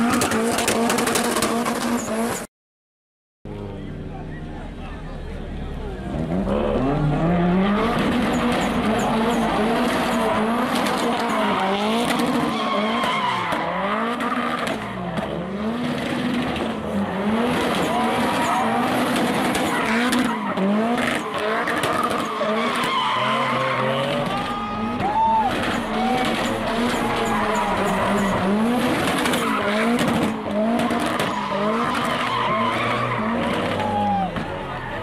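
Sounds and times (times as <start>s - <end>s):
tires squealing and skidding: 0.0s - 2.5s, 6.1s - 35.0s
car engine revving: 3.5s - 35.0s.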